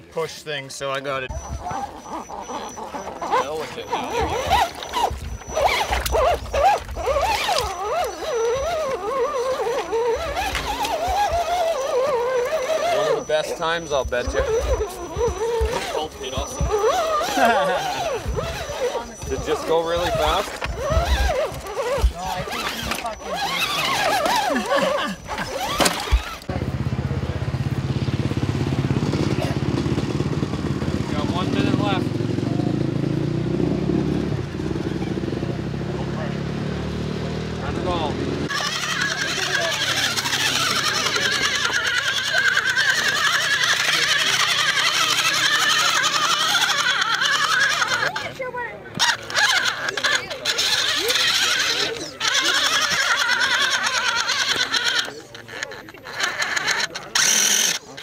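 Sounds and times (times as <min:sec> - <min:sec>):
electric motor whining: 0:00.9 - 0:26.7, 0:34.2 - 0:58.0
engine running steadily: 0:01.2 - 0:54.0.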